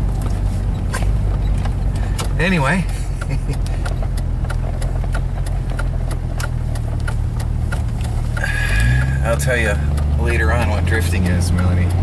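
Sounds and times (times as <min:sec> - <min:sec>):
car engine and road noise: 0:00.0 - 0:12.0
light ticks: 0:00.1 - 0:12.0.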